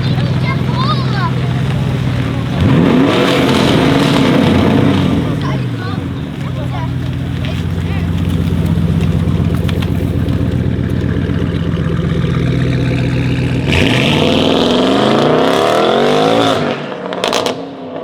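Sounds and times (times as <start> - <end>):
exhaust crackles: 0.0 - 17.7
car engine revving: 0.0 - 18.0.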